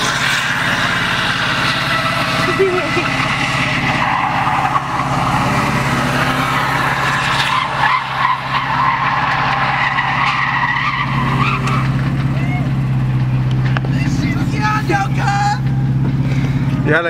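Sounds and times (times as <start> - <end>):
tyres squealing: 0.0 - 16.9
car engine at high revs: 0.0 - 17.0.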